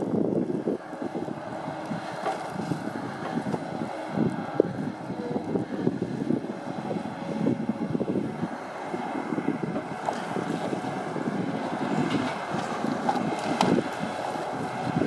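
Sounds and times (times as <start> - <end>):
diesel engine running: 0.0 - 15.0
wind buffeting microphone: 0.0 - 15.0.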